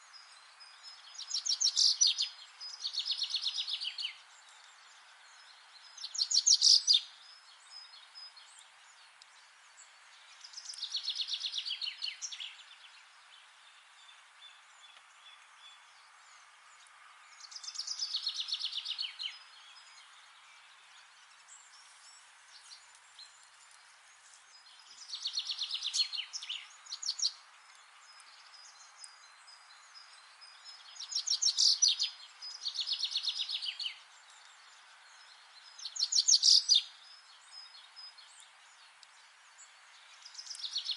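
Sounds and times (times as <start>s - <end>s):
forest background hiss: 0.0s - 40.9s.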